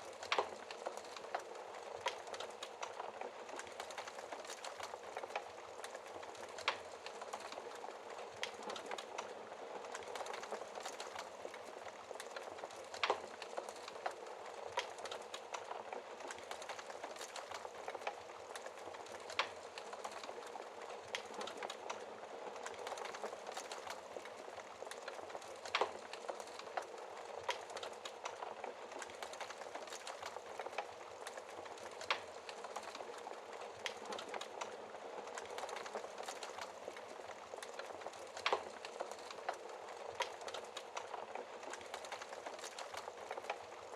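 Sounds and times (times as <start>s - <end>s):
fire popping: 0.0s - 43.9s
wood fire crackling: 0.0s - 43.9s.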